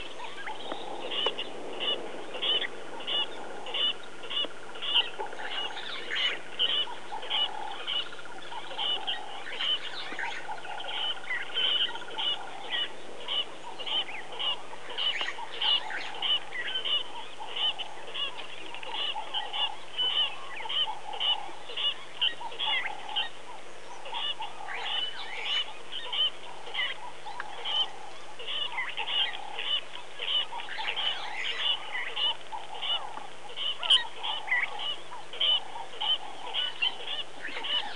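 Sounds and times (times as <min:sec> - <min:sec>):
bird calls: 0:00.0 - 0:37.9.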